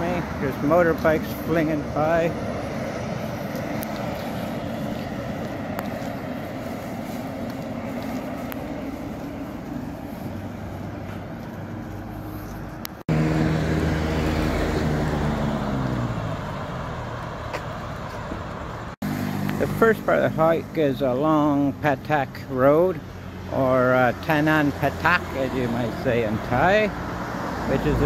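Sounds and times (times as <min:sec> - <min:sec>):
highway traffic hum: 0:00.0 - 0:28.0
vehicle engine passing close: 0:00.0 - 0:28.0.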